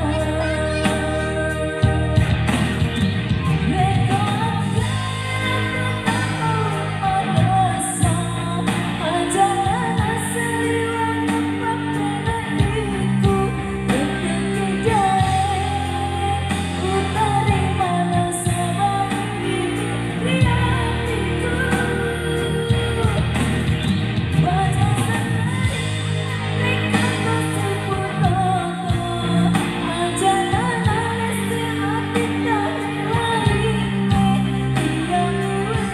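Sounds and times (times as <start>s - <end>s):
instrumental backing: 0.0s - 35.9s
person singing pop song: 0.0s - 35.9s.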